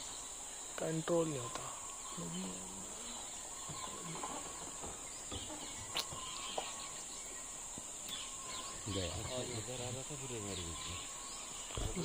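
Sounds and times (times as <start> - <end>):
faint bird chirps: 0.0 - 12.0
insect drone: 0.0 - 12.0.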